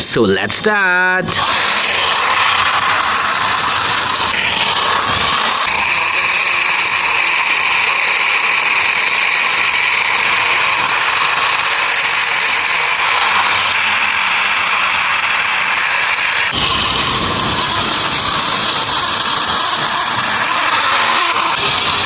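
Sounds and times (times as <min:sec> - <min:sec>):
toy bus wheels whirring: 0:01.3 - 0:22.0.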